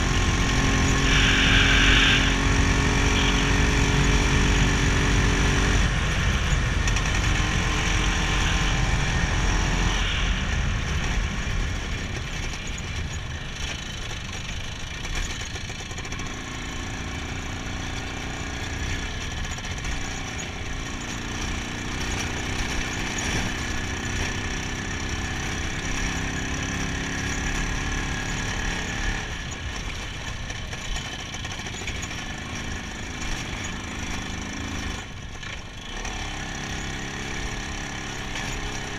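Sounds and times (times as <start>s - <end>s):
two-stroke motorcycle engine running: 0.0s - 38.9s.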